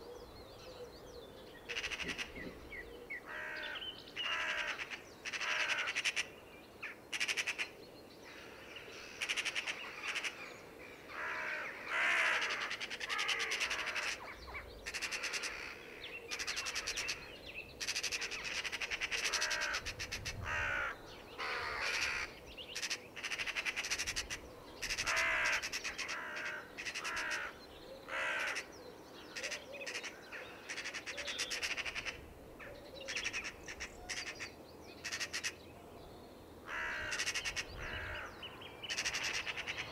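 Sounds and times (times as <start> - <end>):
crows cawing: 1.7 - 2.4, 3.2 - 6.3, 8.3 - 10.4, 11.1 - 28.7, 29.3 - 32.2, 33.1 - 35.6, 36.6 - 39.9.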